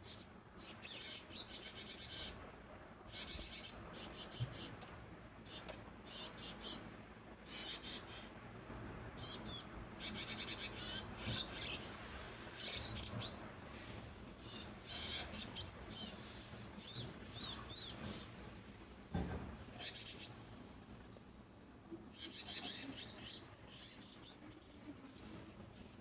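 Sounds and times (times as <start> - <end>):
tits calling: 0.1 - 2.4, 3.1 - 4.8, 5.4 - 18.4, 19.7 - 20.8, 22.1 - 25.9.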